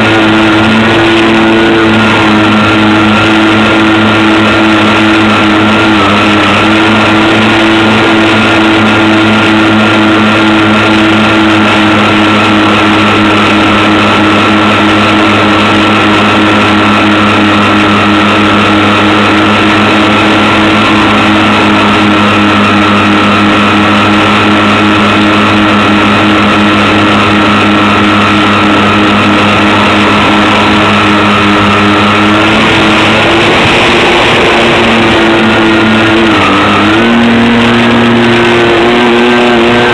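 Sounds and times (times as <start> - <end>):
model plane motors humming: 0.0 - 39.9.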